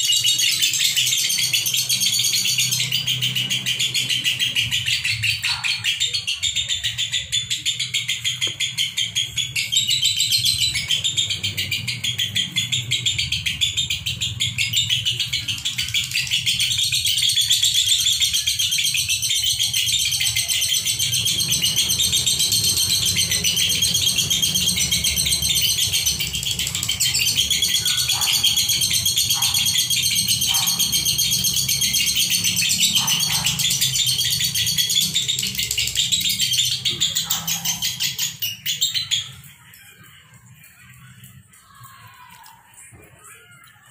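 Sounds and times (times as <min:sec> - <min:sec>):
lovebirds chattering chirps: 0:00.0 - 0:41.9.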